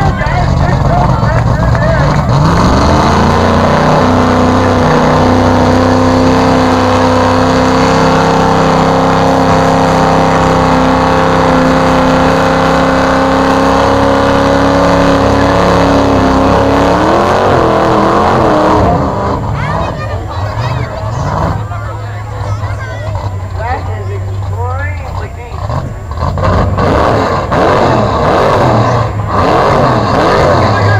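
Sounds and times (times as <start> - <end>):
truck engine at high revs: 0.0 - 30.9.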